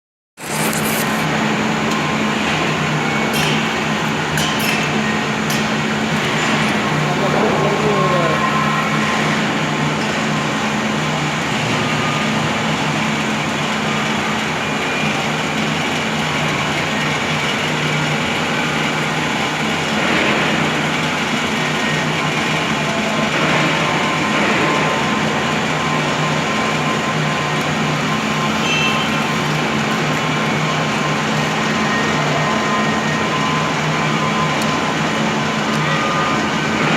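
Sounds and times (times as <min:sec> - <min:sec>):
welding machine hum and hiss: 0:00.4 - 0:36.9.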